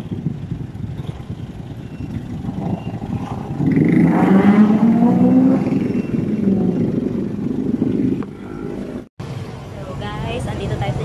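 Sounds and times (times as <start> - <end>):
wind rushing over microphone: 0.0 - 9.1.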